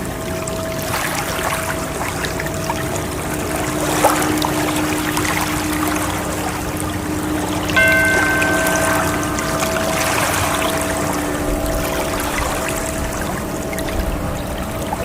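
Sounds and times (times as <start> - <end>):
soft sustained tones: 0.0 - 15.0
ocean waves rushing: 0.8 - 15.0.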